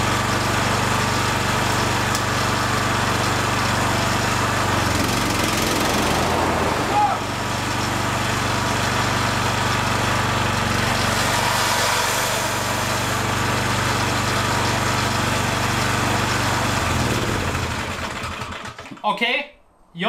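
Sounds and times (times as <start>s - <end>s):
ride-on lawn mower engine: 0.0s - 19.2s.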